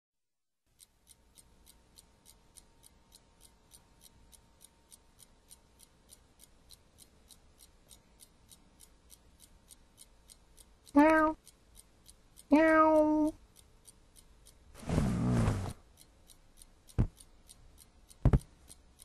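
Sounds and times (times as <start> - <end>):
clock ticking faintly: 0.7 - 19.0.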